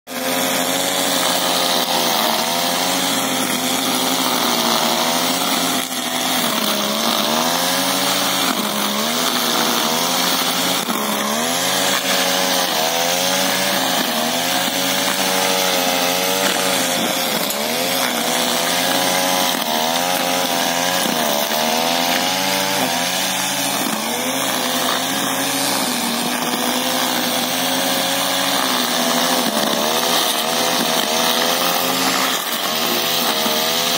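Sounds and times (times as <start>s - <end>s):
brush cutter cutting grass: 0.1s - 33.9s.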